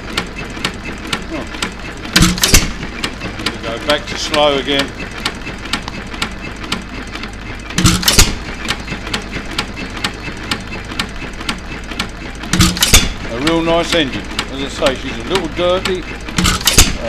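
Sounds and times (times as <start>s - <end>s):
engine firing pop and thump: 0.0s - 14.5s, 15.3s - 17.0s
engine mechanism clicking: 0.0s - 17.0s.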